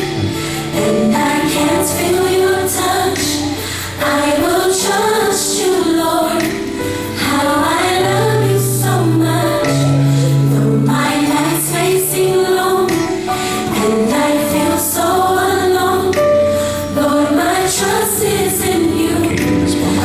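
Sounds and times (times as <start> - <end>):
women singing together: 0.0 - 20.0.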